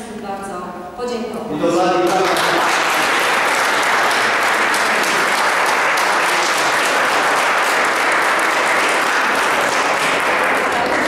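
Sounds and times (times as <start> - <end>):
crowd applauding: 2.0 - 11.0.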